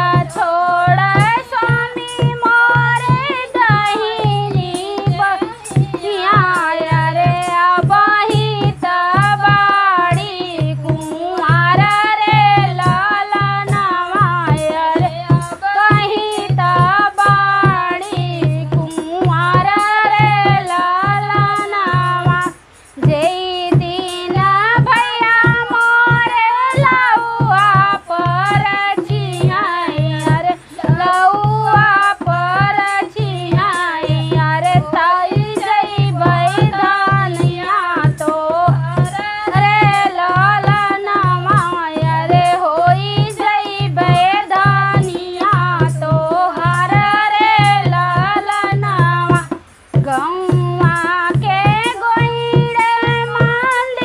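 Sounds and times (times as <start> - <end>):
hand drum beat: 0.0 - 54.0
women singing folk song: 0.0 - 54.0.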